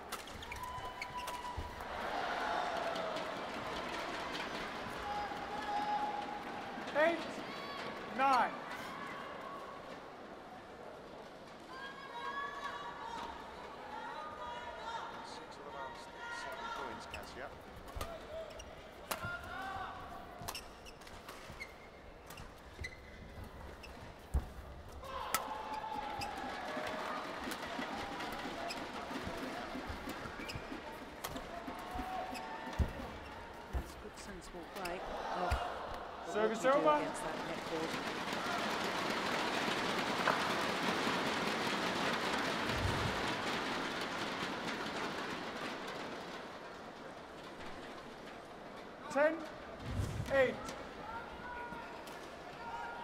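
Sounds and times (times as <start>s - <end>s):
crowd noise: 0.0s - 53.0s.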